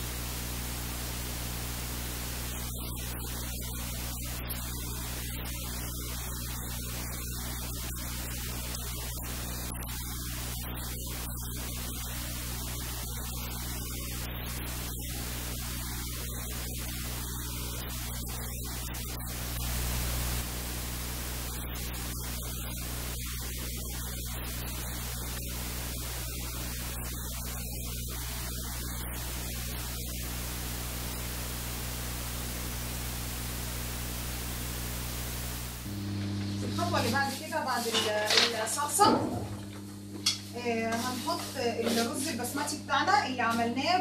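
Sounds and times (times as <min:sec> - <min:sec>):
low electrical mains hum: 0:00.0 - 0:44.0
static hiss: 0:00.0 - 0:44.0.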